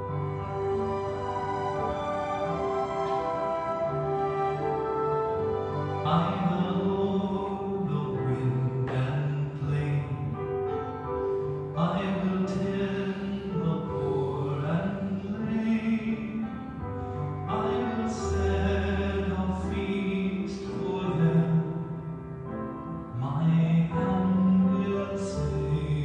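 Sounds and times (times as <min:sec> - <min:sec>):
slow song with accompaniment: 0:00.0 - 0:26.0.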